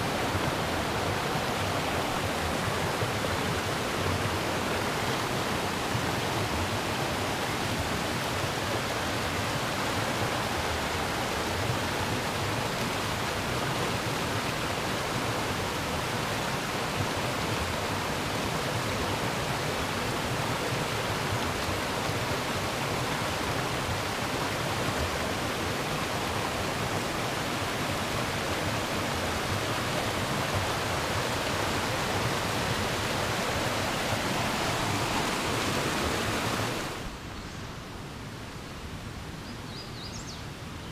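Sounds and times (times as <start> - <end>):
creek rushing over rocks: 0.0 - 39.4.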